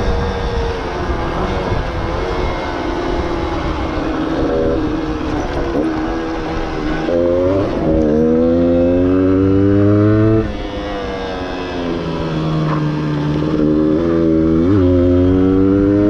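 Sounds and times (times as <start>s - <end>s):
two-stroke motorcycle engine accelerating: 0.0s - 16.0s.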